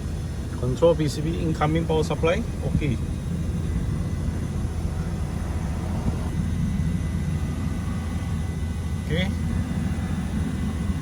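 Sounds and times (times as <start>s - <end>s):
low machinery rumble: 0.0s - 11.0s.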